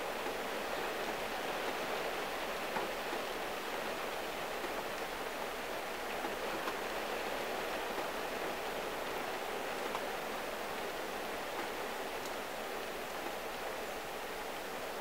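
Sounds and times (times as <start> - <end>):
rain pattering on car roof: 0.2 - 13.5.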